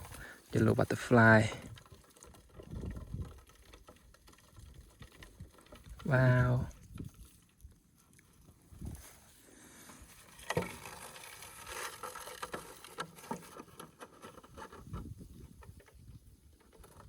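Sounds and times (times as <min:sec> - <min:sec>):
rustling and handling noises: 0:00.0 - 0:17.0.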